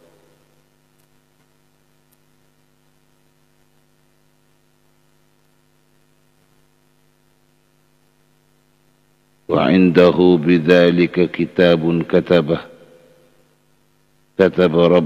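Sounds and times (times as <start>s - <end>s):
faint electrical mains hum: 0.0s - 15.0s.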